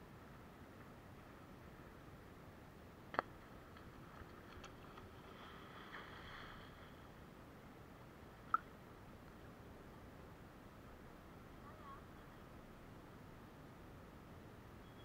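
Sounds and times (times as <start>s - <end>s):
faint outdoor hiss by water: 0.0s - 15.0s.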